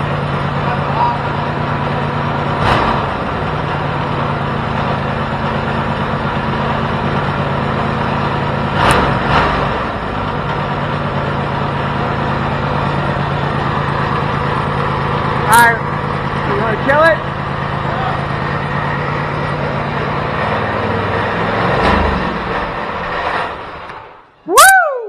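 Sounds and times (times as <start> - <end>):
engine idling and revving: 0.0 - 24.4.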